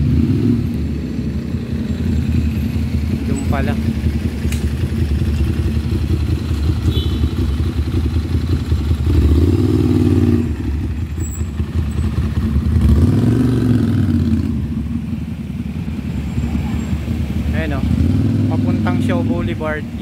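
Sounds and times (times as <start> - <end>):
low engine rumble: 0.0 - 20.0
motorcycle engines: 0.0 - 20.0
road traffic passing: 0.0 - 20.0.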